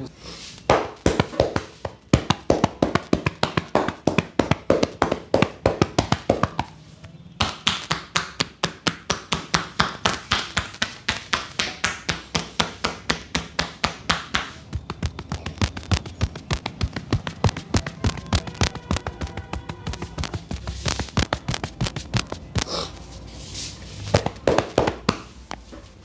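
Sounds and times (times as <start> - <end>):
hands slapping a body: 0.6 - 6.8, 7.4 - 23.1, 24.1 - 25.6.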